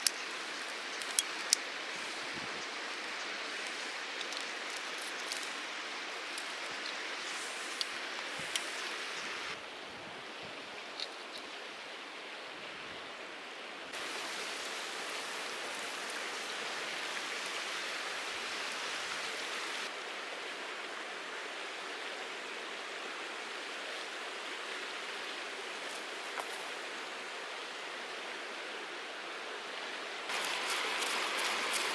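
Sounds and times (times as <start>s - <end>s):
stream water rushing: 0.0s - 12.8s, 13.9s - 31.9s.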